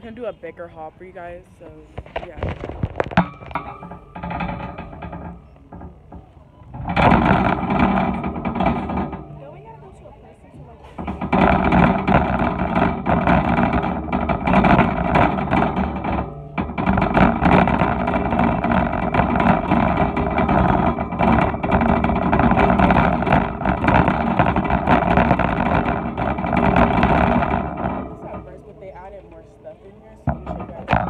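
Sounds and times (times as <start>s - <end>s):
shopping cart rattling: 2.2s - 31.0s.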